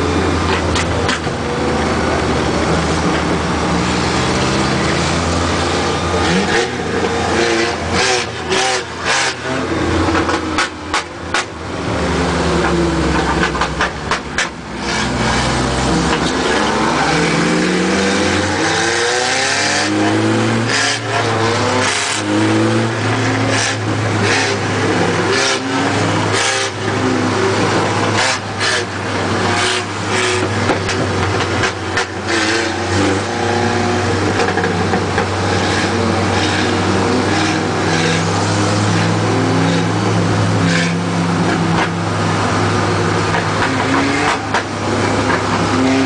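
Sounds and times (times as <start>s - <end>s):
race truck engine revving: 0.0s - 46.0s.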